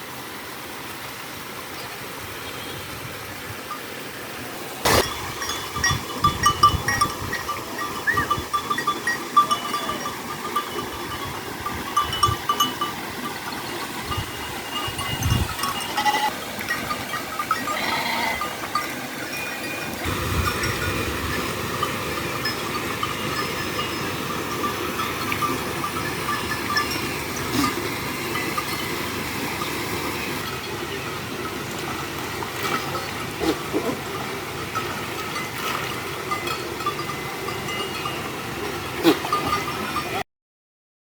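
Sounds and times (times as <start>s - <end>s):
river water rushing: 0.0s - 40.1s.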